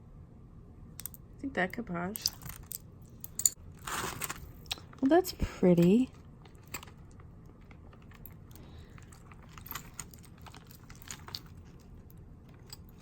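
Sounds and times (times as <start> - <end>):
jewelry clicking and clinking: 1.0 - 1.2, 2.2 - 13.0.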